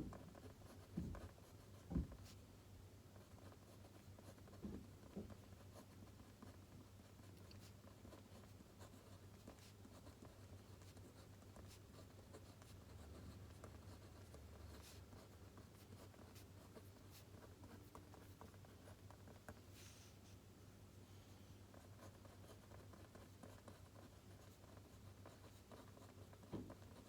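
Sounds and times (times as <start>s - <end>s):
pencil scratching on paper: 0.1s - 2.4s, 3.2s - 20.1s, 21.7s - 27.0s.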